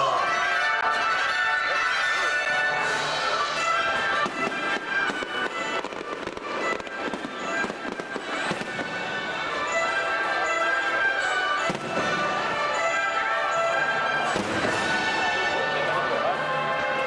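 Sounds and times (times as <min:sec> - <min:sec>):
music playing: 0:00.0 - 0:17.0
fireworks bursting with sharp bangs: 0:02.0 - 0:15.8.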